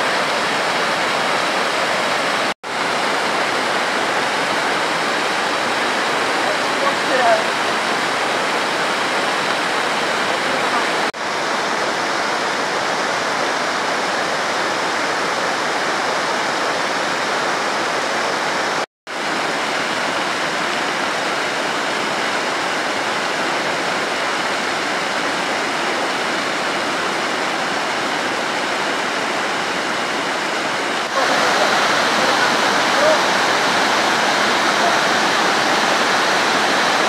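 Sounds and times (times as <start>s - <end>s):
floodwater rushing and pouring: 0.0s - 37.0s.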